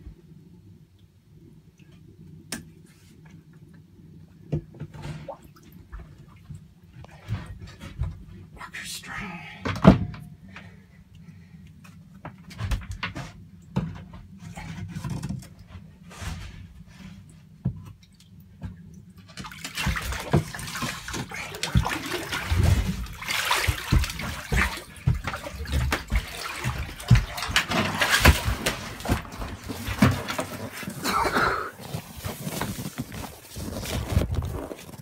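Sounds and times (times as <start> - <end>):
water splashing and sloshing: 1.0 - 8.6, 9.6 - 35.0.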